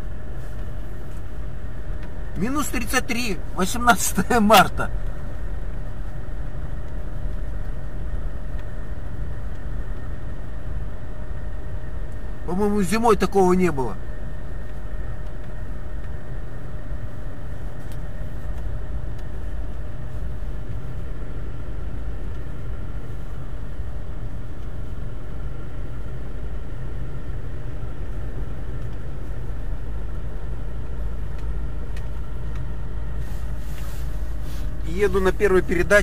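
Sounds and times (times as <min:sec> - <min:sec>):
low engine rumble: 0:00.0 - 0:36.0
thin steady whine: 0:00.0 - 0:36.0.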